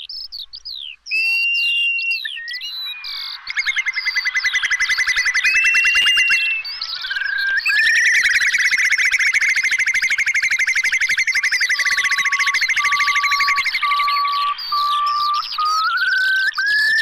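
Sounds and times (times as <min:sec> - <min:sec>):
bird trilling whistled notes: 0:00.0 - 0:17.0
high twittering bird calls: 0:00.0 - 0:17.0
short level whistles: 0:01.1 - 0:17.0.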